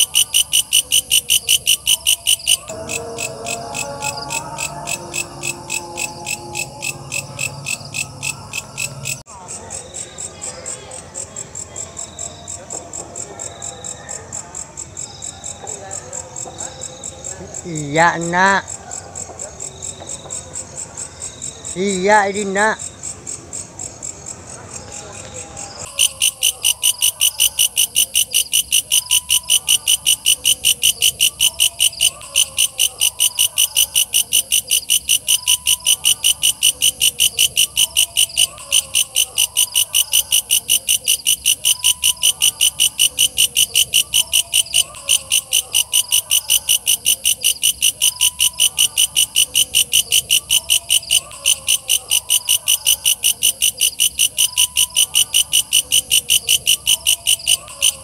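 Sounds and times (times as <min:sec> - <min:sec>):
bush cricket shrill chirps: 0:00.0 - 0:09.2, 0:19.6 - 0:58.0.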